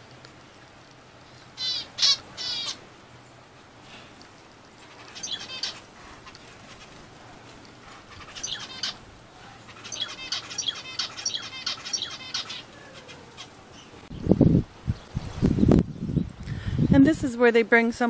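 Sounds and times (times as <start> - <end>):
birds chirping rapidly: 1.4 - 17.1.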